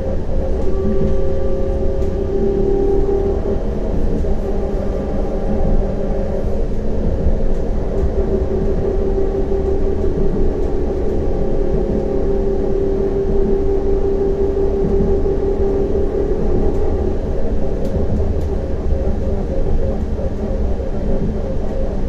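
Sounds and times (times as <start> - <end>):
tram rumbling along track: 0.0 - 22.0
tram whine: 0.0 - 22.0.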